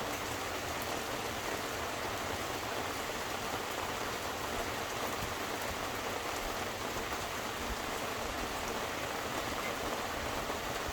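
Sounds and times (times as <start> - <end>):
rain hissing: 0.0 - 10.9
raindrops pattering on hard surfaces: 0.0 - 10.9.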